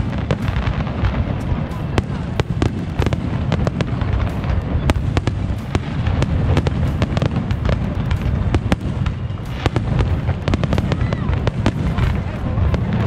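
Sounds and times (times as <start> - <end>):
deep fireworks booming: 0.0 - 13.0
fireworks cracks and bangs: 0.0 - 13.0.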